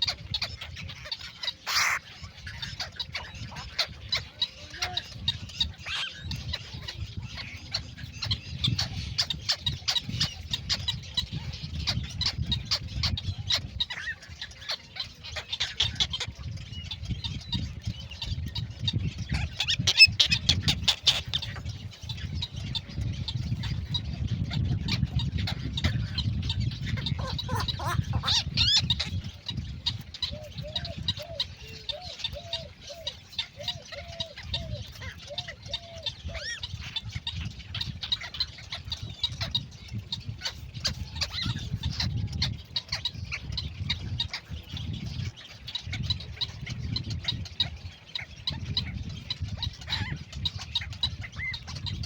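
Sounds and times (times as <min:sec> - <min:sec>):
birds calling and squawking: 0:00.0 - 0:52.0.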